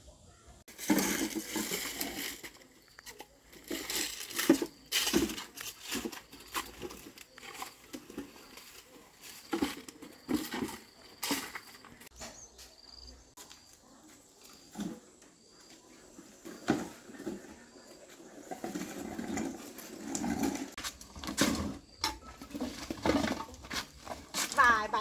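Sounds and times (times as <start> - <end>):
crackling and crunching: 0.7 - 25.0.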